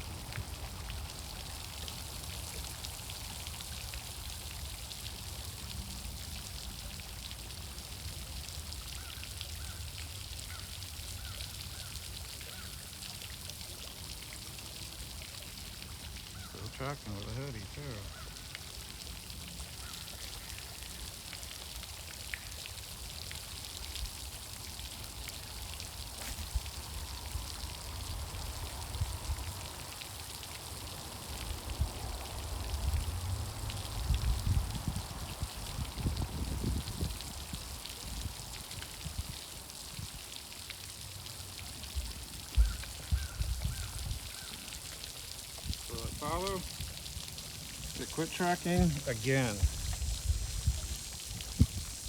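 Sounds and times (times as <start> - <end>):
outdoor hiss: 0.0 - 52.0.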